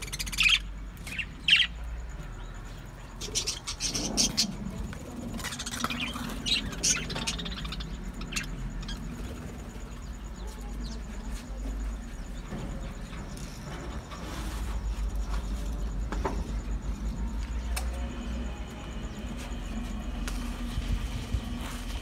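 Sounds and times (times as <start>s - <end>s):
low steady hum: 2.0s - 22.0s.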